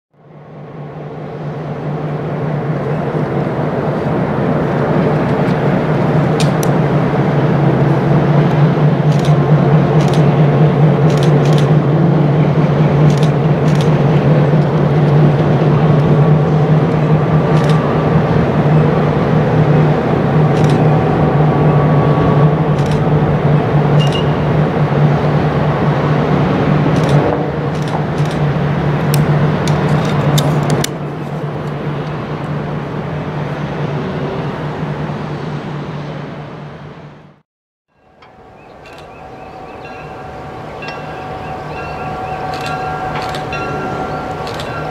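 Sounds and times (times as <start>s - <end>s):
locomotive engine droning: 0.2s - 44.9s.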